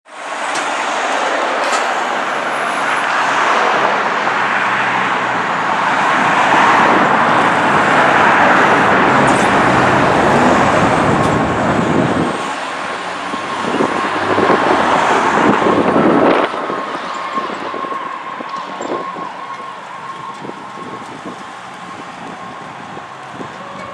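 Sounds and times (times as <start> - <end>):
fire truck driving past: 0.1 - 23.9.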